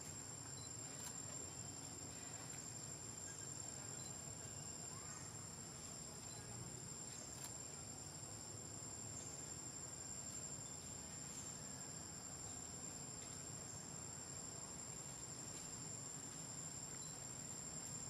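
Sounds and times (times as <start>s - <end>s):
faint outdoor background hiss: 0.0s - 18.0s.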